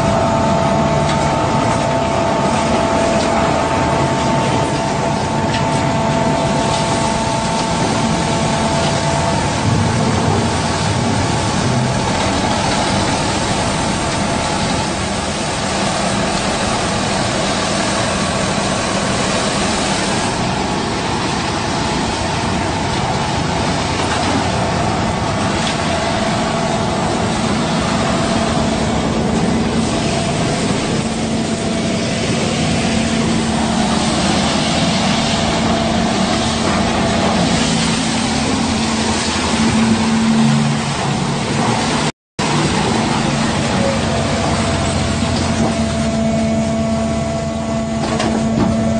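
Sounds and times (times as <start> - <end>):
concrete pump machine drone: 0.0 - 48.9.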